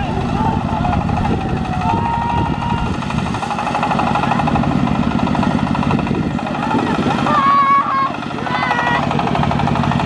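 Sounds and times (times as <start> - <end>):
small engine chugging: 0.0 - 10.0.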